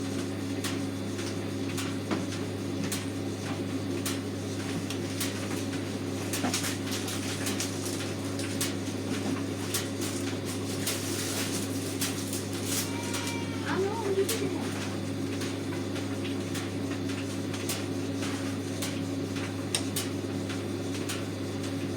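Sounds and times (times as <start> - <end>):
tumble dryer motor hum: 0.0 - 21.9.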